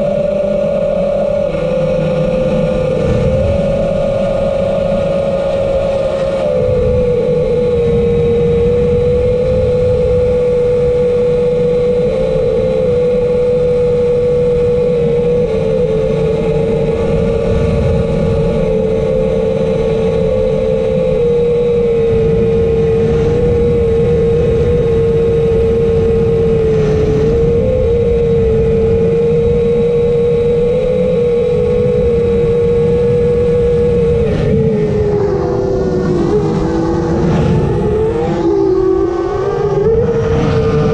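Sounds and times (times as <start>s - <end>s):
drone propeller motor humming: 0.0s - 40.9s
wind rushing over microphone: 0.0s - 40.9s.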